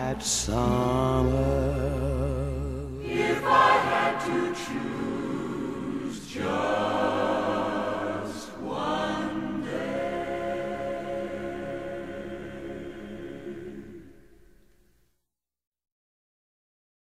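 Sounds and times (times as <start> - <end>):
choir holding long chords: 0.0 - 14.7.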